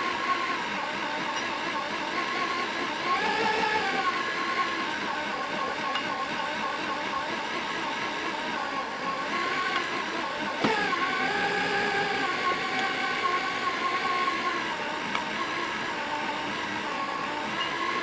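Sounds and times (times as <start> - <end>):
electric drill motor whine: 0.0 - 18.0
grain mill grinding: 0.0 - 18.0.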